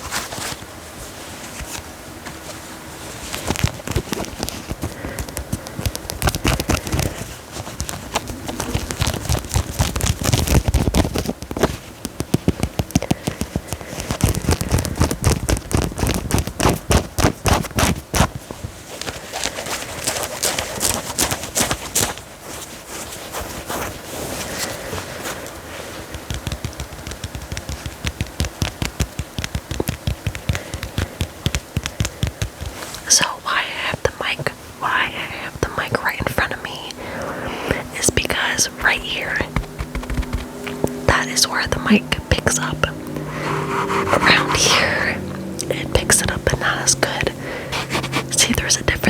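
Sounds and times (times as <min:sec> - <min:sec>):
fingers scratching clothing: 0:02.4 - 0:49.0.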